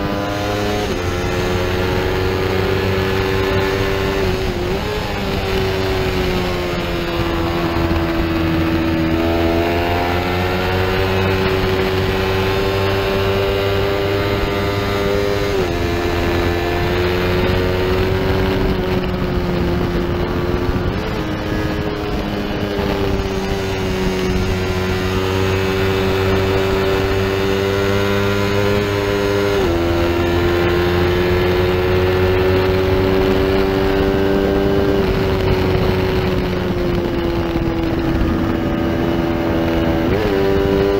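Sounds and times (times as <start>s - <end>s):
motorcycle engine accelerating: 0.0s - 40.9s
wind rushing: 0.0s - 40.9s.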